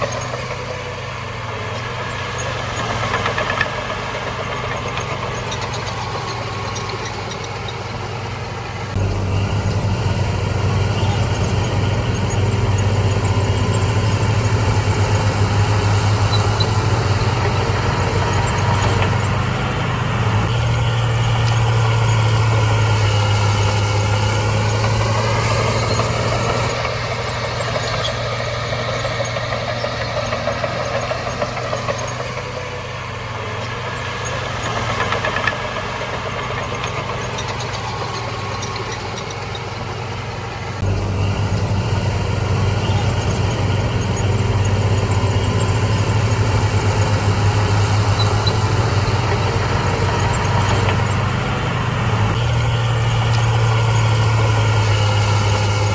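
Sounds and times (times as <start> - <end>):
diesel machine engine running: 0.0 - 55.9.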